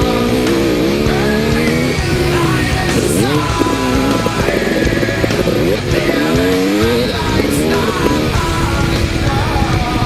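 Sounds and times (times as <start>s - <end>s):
heavy metal music with electric guitar: 0.0s - 10.0s.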